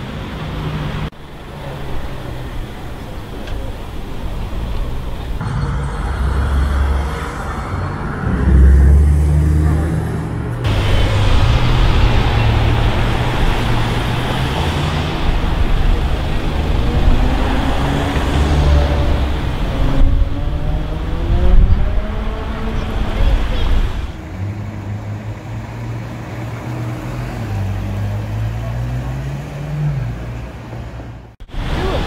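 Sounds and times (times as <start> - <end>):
car engines passing: 0.0 - 32.0
car accelerating: 0.6 - 30.8.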